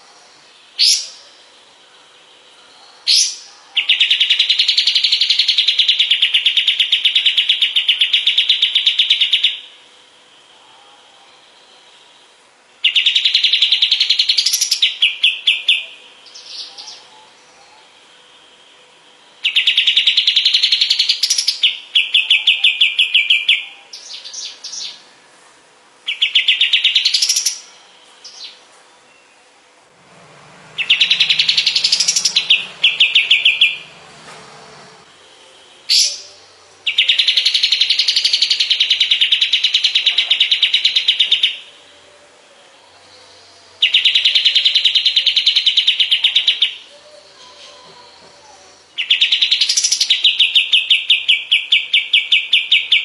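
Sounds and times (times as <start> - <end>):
songbird trilling: 0.0 - 1.5, 2.3 - 9.8, 12.8 - 18.6, 19.4 - 25.1, 26.0 - 29.5, 30.6 - 34.2, 35.2 - 42.0, 42.6 - 53.0.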